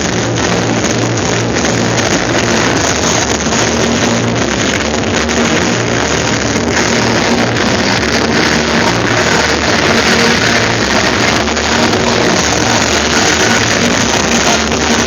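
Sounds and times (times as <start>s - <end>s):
loud distorted rock music: 0.0s - 15.0s
steady rushing noise: 0.0s - 15.0s.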